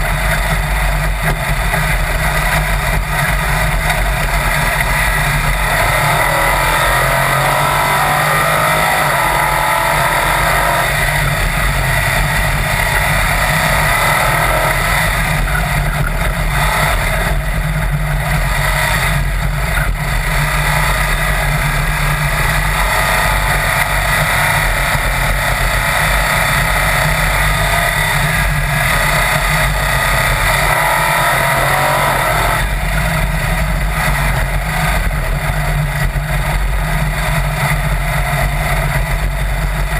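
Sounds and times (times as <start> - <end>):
dune buggy engine accelerating: 0.0 - 39.9.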